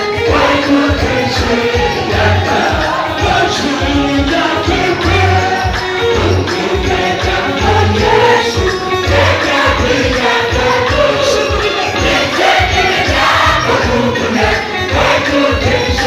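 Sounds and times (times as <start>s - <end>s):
group of voices singing: 0.0s - 16.0s
jingling percussion: 0.0s - 16.0s.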